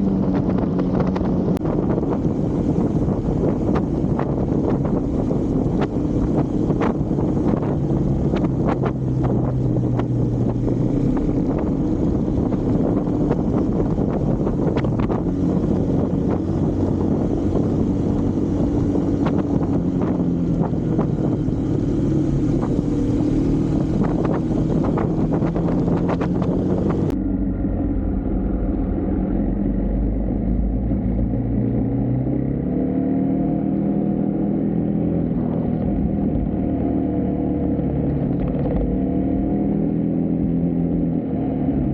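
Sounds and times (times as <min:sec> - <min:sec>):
wind buffeting microphone: 0:00.0 - 0:37.2
motorcycle engine revving: 0:00.0 - 0:41.9.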